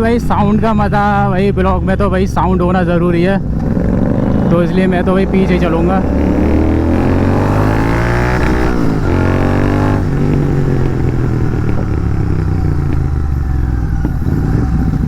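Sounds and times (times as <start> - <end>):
motorcycle exhaust accelerating: 0.0 - 15.0.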